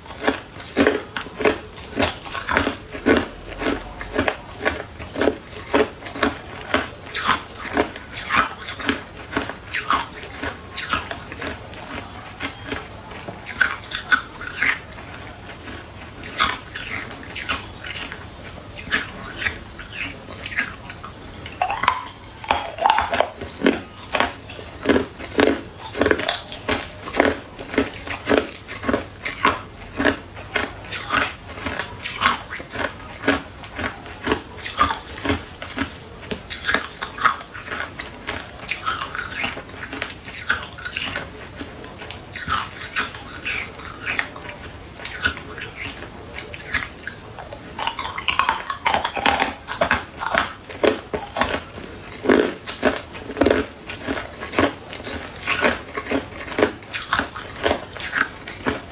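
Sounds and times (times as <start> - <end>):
ice cubes crunched between teeth: 0.0 - 18.2, 18.8 - 58.9.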